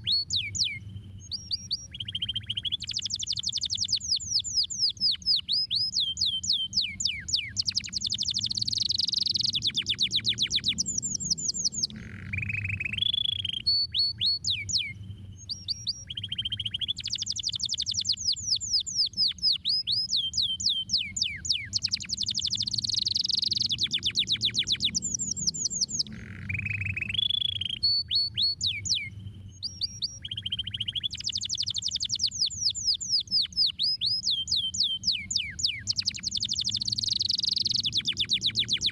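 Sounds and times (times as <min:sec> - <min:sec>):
canary singing: 0:00.0 - 0:38.9
low steady hum: 0:00.0 - 0:38.9.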